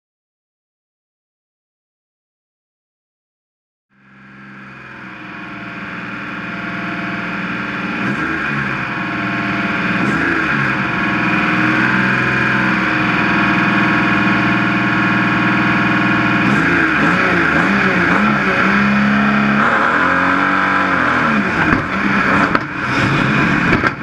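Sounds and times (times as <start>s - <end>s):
race car engine idling: 4.0s - 24.0s.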